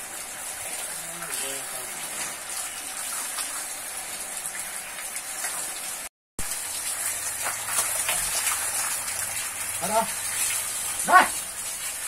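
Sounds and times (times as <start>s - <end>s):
hose water spraying and splashing: 0.0s - 12.0s.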